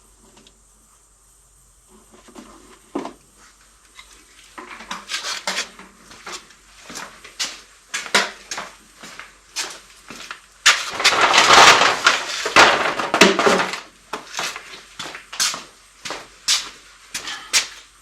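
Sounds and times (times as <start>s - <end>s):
noisy rustle: 0.0s - 18.0s.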